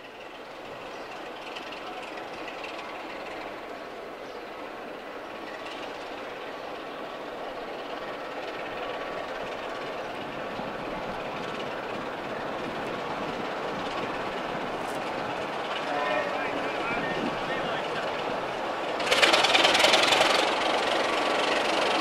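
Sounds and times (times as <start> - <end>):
diesel locomotive engine: 0.0 - 22.0.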